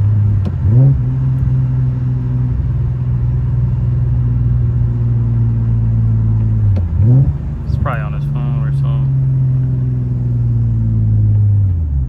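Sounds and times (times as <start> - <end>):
car engine inside cabin: 0.0 - 12.0
road noise inside car: 0.0 - 12.0.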